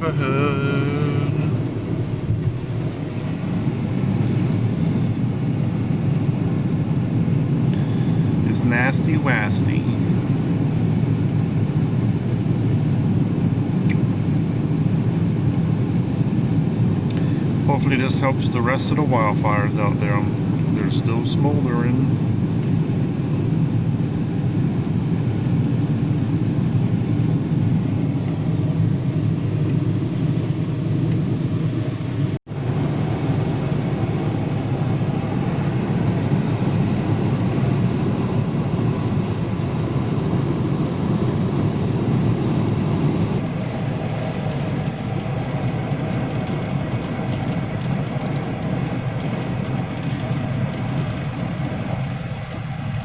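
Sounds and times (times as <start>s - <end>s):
road and engine noise inside vehicle: 0.0s - 53.0s.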